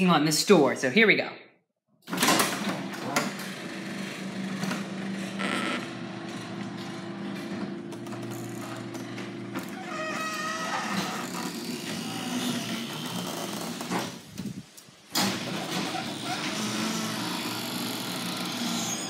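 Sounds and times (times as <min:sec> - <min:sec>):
garage door clattering: 0:02.0 - 0:14.3, 0:15.0 - 0:19.0
garage door mechanical hum: 0:02.0 - 0:19.0.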